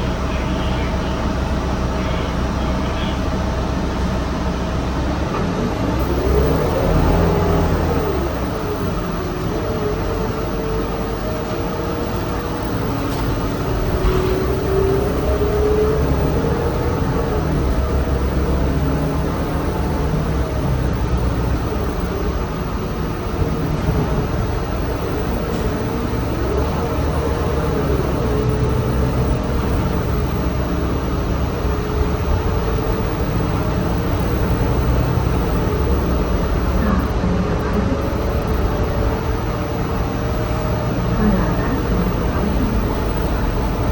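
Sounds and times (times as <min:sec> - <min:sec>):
bus engine rumbling: 0:00.0 - 0:43.9
whining drivetrain: 0:00.0 - 0:43.9.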